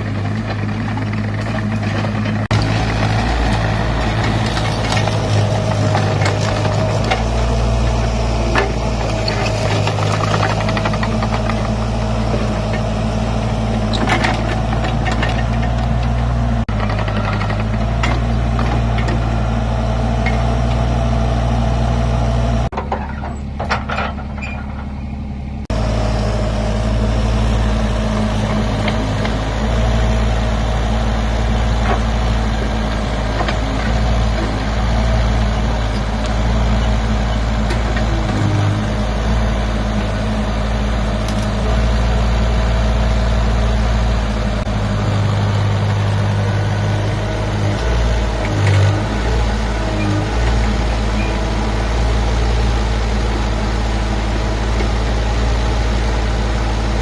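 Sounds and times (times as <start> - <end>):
excavator engine running: 0.0 - 57.0.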